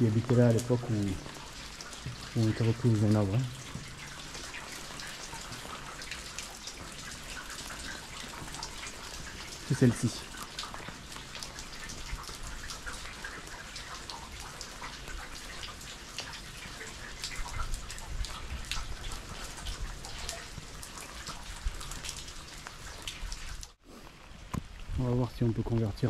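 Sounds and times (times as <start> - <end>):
raindrops landing close by: 0.0 - 26.0
steady rain: 0.0 - 26.0.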